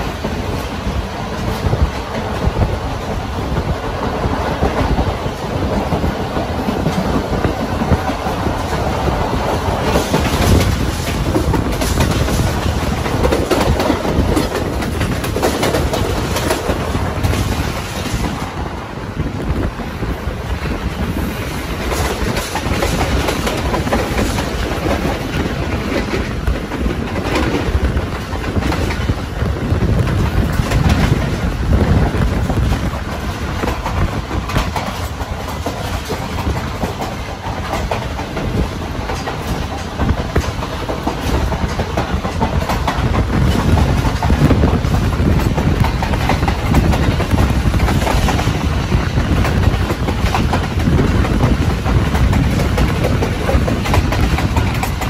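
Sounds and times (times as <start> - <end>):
wheels clacking over rail joints: 0.0 - 18.7, 19.6 - 55.0
train rushing along track: 0.0 - 55.0.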